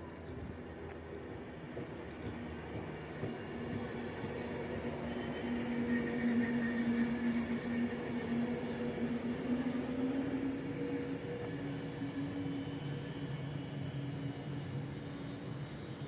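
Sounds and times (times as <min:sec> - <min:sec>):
train whine: 0:00.0 - 0:16.0.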